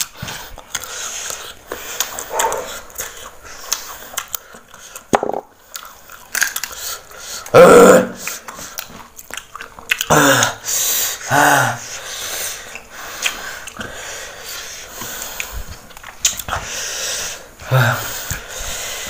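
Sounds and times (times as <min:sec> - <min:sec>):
crunching and chewing: 0:00.0 - 0:07.6, 0:08.2 - 0:11.2, 0:11.9 - 0:17.5.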